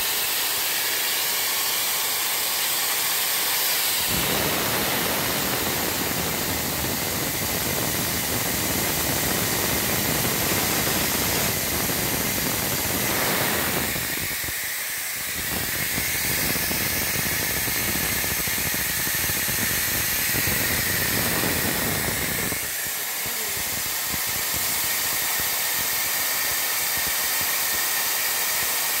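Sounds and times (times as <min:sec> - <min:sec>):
gas and air jets rushing: 0:00.0 - 0:28.9
laser welder hissing: 0:00.0 - 0:29.0.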